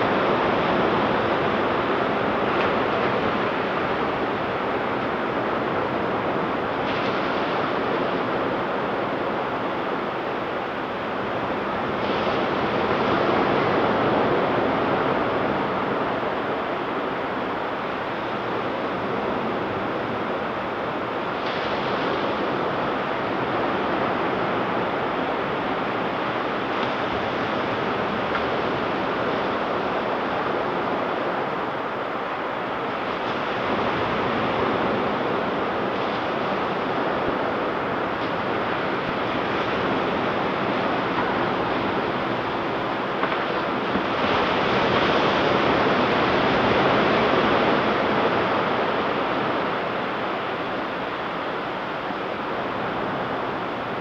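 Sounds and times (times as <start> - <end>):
waves breaking: 0.0 - 54.0.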